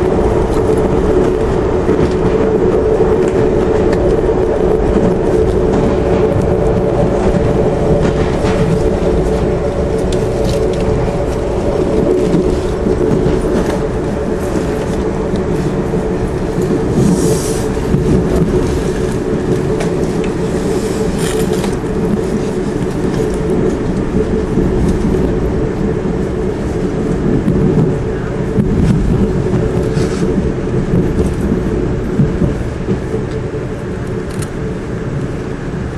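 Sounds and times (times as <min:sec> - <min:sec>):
train rumbling at speed: 0:00.0 - 0:35.9.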